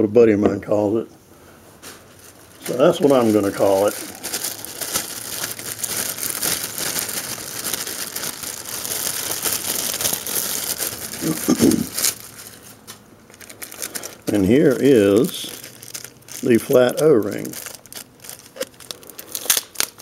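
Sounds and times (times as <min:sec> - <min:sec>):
packaging crinkling and rustling: 0:01.8 - 0:20.0.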